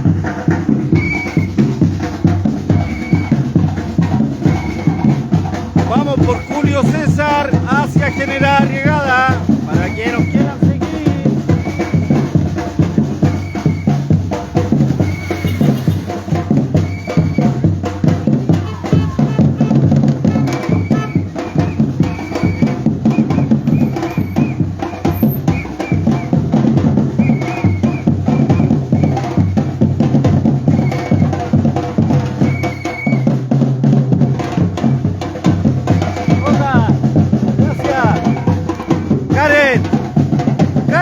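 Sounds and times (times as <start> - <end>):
percussion ensemble drumming: 0.0 - 41.0.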